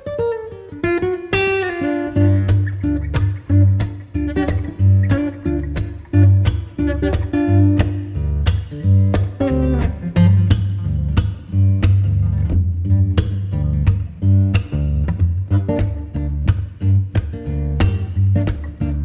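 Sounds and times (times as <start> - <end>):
acoustic guitar picking and strumming: 0.0 - 19.0
steady bass line: 2.2 - 19.0.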